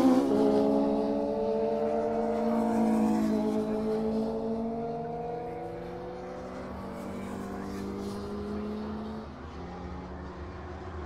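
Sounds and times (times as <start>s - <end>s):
motorcycle engine at speed: 0.0s - 11.0s.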